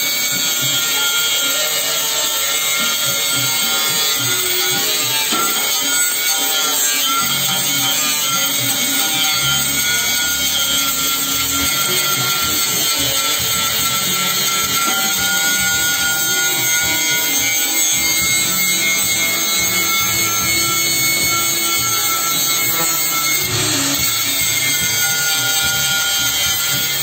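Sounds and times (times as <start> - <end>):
angle grinder cutting steel: 0.0 - 27.0
background music: 0.0 - 27.0.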